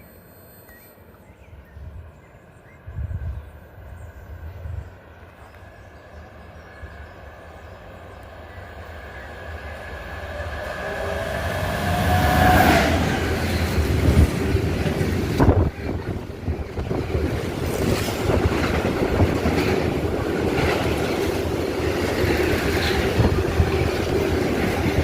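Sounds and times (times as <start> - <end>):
electric train rumble: 1.0 - 25.0.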